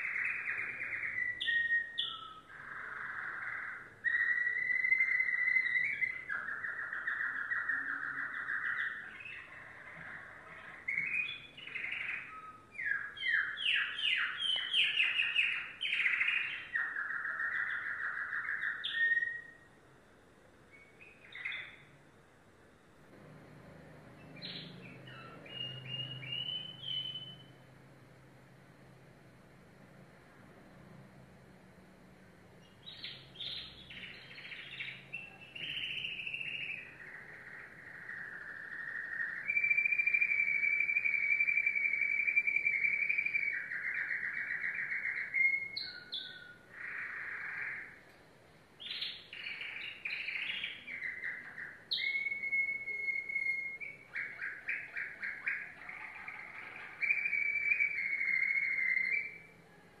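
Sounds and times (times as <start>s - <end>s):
canary singing: 0.0s - 60.0s.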